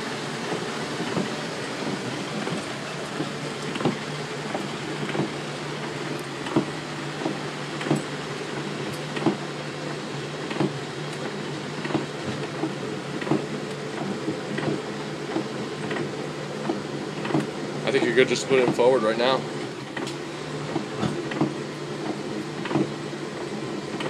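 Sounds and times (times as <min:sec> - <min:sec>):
windshield wipers thumping: 0:00.0 - 0:19.0, 0:19.6 - 0:23.0
vehicle engine and fan hum: 0:00.0 - 0:24.0.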